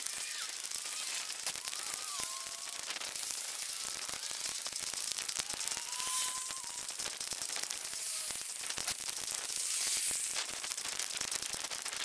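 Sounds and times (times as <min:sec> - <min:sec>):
hiss with rapid clicks: 0:00.0 - 0:12.0.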